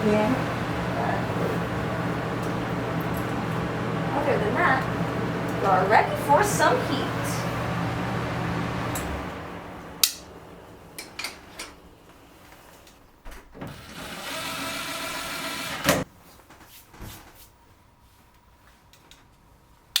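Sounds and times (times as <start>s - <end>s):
steady hum: 0.0s - 16.1s.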